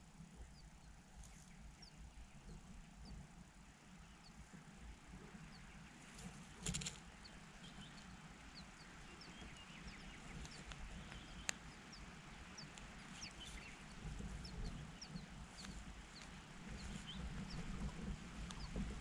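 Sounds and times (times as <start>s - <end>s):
low background rumble: 0.0s - 19.0s
rustle: 0.0s - 19.0s.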